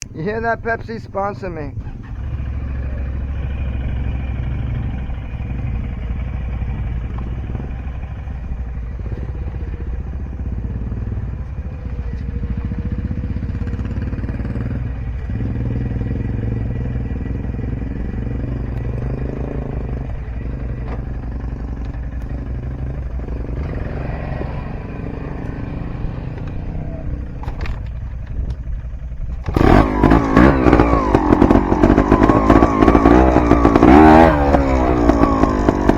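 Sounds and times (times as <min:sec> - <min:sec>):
dirt bike engine idling and revving: 0:00.0 - 0:35.9.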